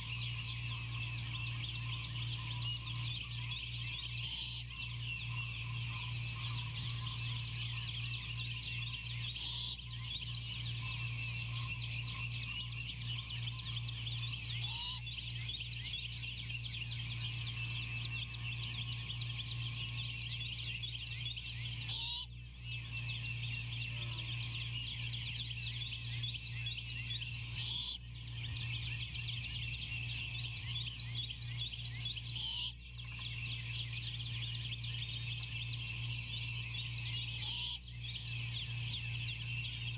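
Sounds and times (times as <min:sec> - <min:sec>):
chorus of high rapid chirping: 0:00.0 - 0:39.9
low electrical hum: 0:00.0 - 0:39.9.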